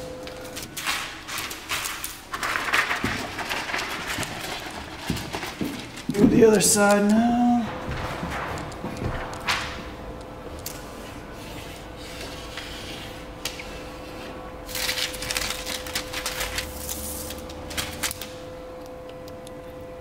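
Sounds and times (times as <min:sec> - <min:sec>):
steady hum: 0:00.0 - 0:20.0
plastic film rustling and sliding: 0:00.4 - 0:10.0, 0:10.6 - 0:18.4.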